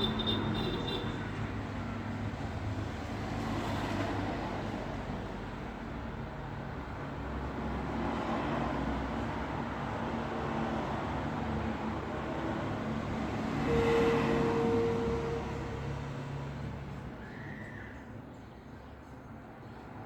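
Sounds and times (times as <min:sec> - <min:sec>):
vehicles passing: 0:00.0 - 0:20.0.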